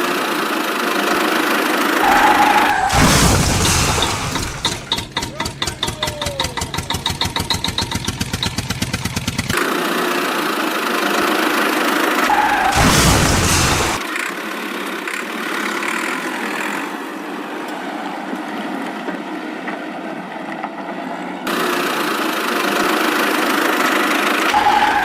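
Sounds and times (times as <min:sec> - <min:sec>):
engine-like running noise: 0:00.0 - 0:25.0.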